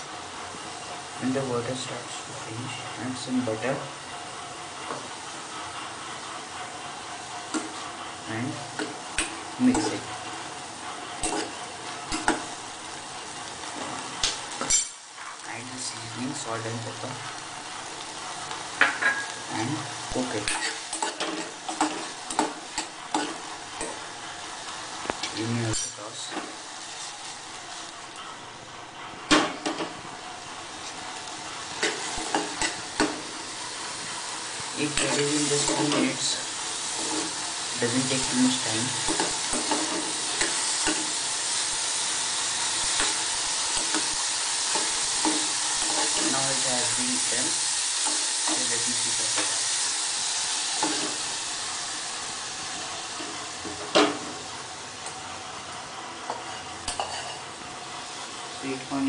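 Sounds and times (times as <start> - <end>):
corn sizzling in a pan: 0.0 - 59.0.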